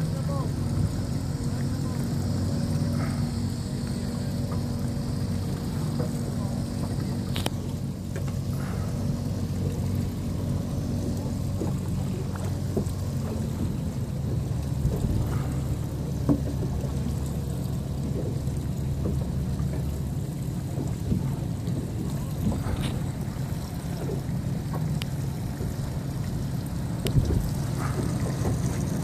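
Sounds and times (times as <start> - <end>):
boat engine idling: 0.0 - 29.0
water splashing against hull: 0.0 - 29.0.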